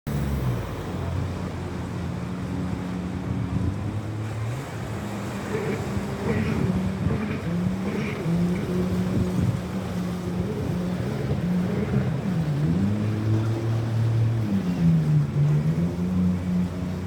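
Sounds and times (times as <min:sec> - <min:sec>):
motorboat engine droning: 0:00.1 - 0:17.0.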